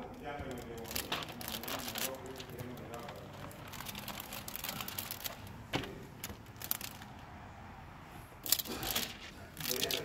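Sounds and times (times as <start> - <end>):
plastic film crinkling: 0.0 - 7.2, 8.4 - 10.0.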